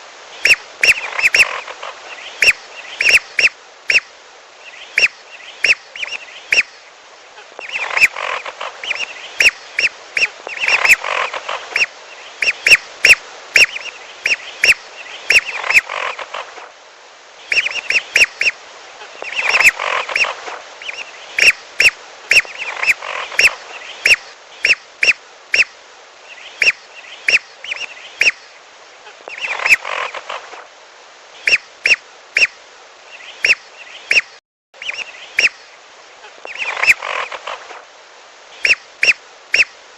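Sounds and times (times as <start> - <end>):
whistling ducks calling: 0.4 - 6.8, 7.6 - 16.4, 17.5 - 18.6, 19.2 - 25.7, 26.3 - 28.5, 29.3 - 30.3, 31.4 - 35.6, 36.4 - 37.6, 38.6 - 39.7.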